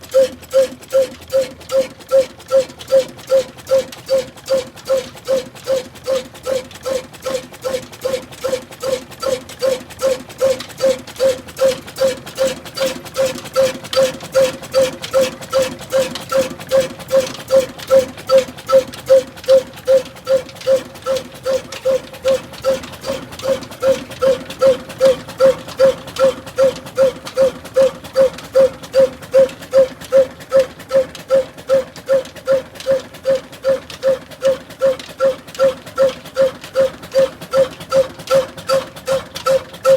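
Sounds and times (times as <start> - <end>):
diesel engine beating with ringing tone: 0.0 - 39.9.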